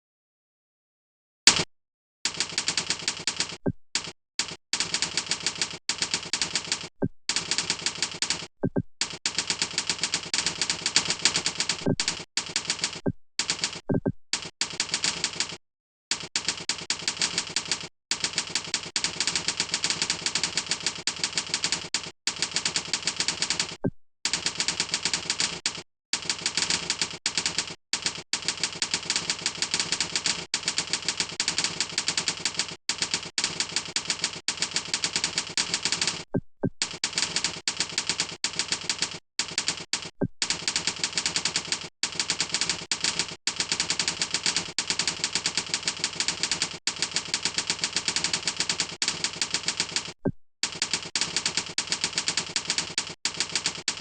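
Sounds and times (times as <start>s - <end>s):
rapid keyboard typing: 1.5s - 1.7s, 2.3s - 54.0s.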